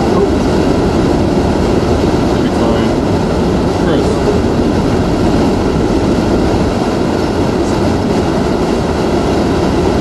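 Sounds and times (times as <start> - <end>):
driving rain: 0.0 - 10.0
hurricane wind rushing: 0.0 - 10.0.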